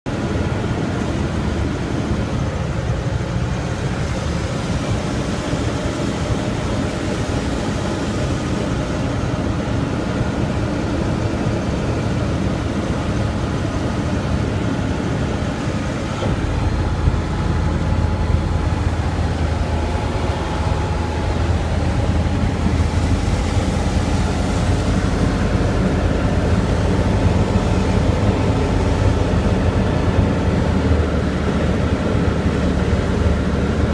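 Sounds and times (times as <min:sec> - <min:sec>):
aircraft engine and propeller drone: 0:00.1 - 0:33.9.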